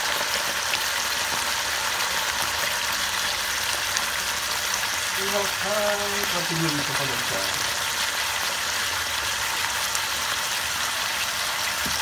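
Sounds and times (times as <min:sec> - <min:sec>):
squid sizzling in hot oil: 0:00.0 - 0:12.0.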